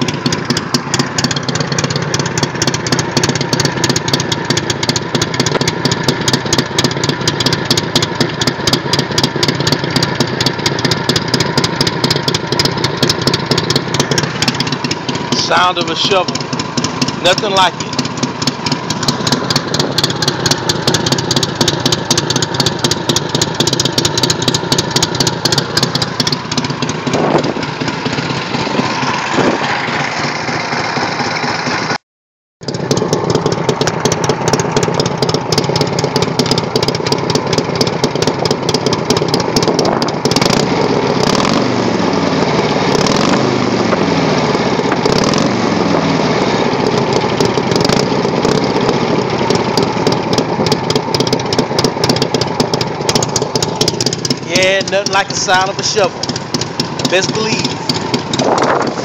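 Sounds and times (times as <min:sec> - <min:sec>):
motorcycle engine idling: 0:00.0 - 0:32.0, 0:32.6 - 0:59.0.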